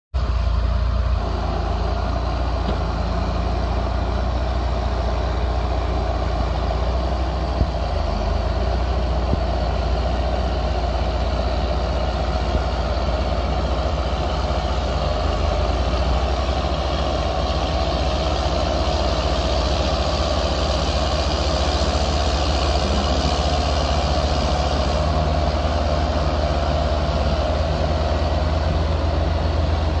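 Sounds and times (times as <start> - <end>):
tractor diesel engine under load: 0.1 - 30.0.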